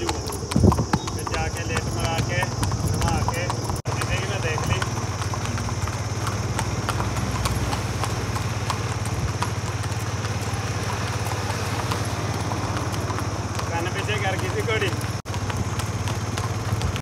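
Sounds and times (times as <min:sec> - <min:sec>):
hooves clip-clopping on asphalt: 0:00.0 - 0:17.0.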